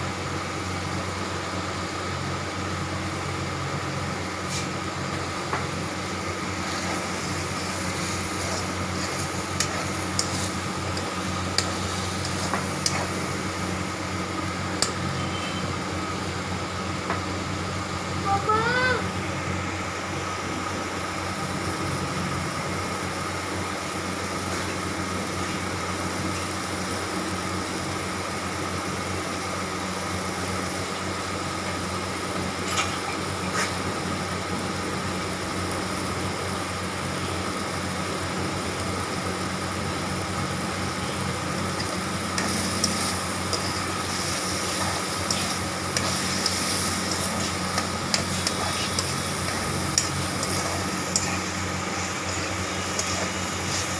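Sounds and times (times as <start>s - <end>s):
meat sizzling in oil: 0.0s - 53.9s.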